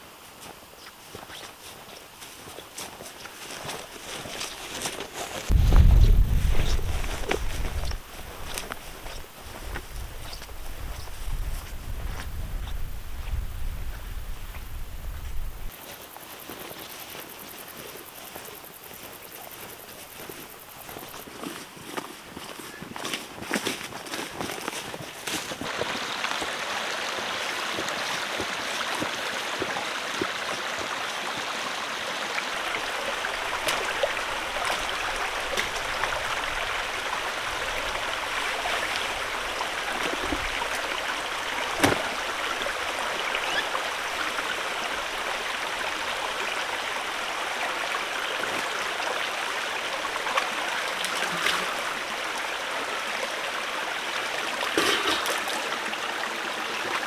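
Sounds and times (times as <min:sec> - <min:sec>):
mountain stream running: 0:00.0 - 0:57.0.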